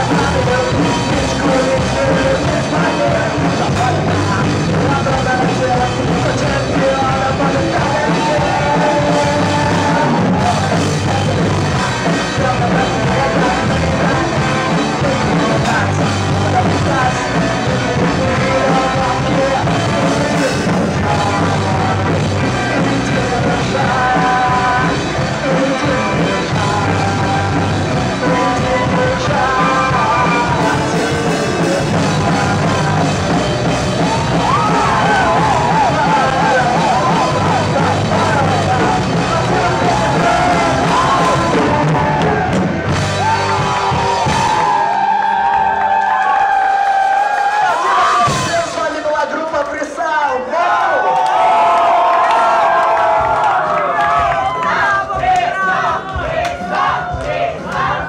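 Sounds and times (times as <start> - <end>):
rock band playing live: 0.0 - 50.1.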